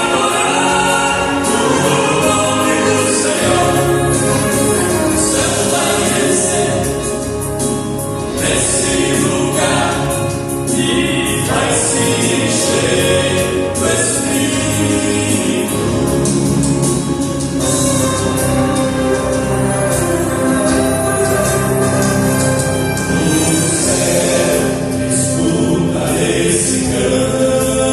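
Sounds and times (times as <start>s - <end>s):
backing music: 0.0s - 27.9s
vocal quartet singing in harmony: 0.0s - 27.9s.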